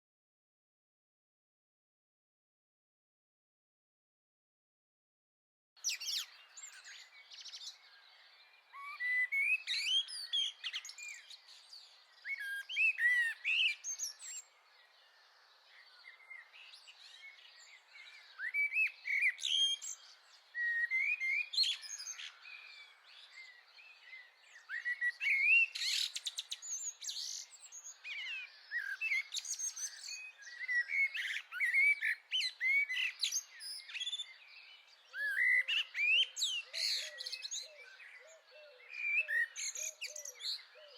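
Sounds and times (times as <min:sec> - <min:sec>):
blackbird singing: 0:05.8 - 0:40.9
faint bird chirps: 0:05.8 - 0:40.9.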